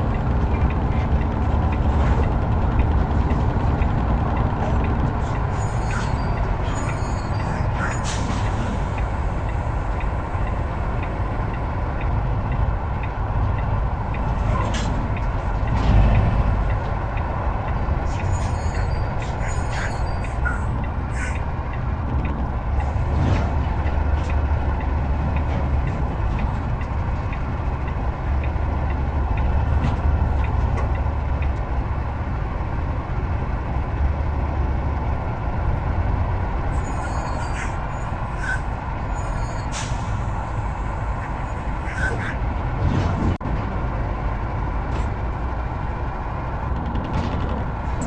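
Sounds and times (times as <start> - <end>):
heavy truck engine rumble: 0.0 - 48.0.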